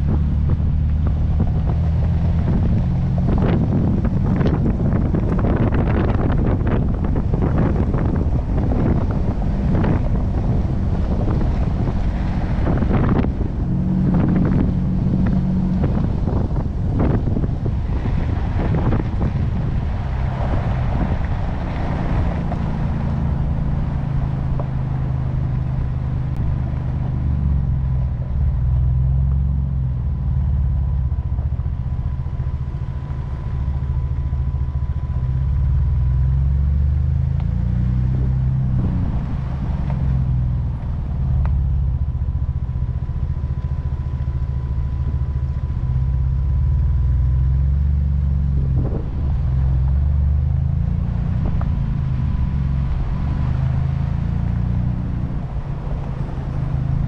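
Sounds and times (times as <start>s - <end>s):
engine running at low revs: 0.0s - 57.0s.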